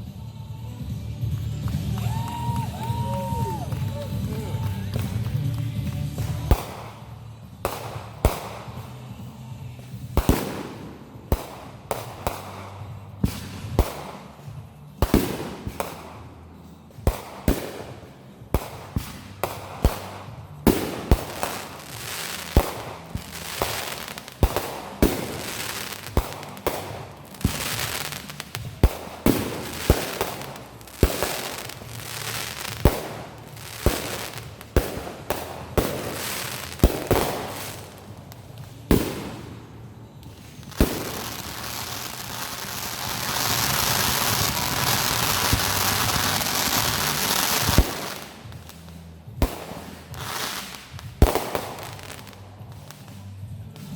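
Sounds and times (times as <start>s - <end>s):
fireworks bangs: 1.3s - 53.9s.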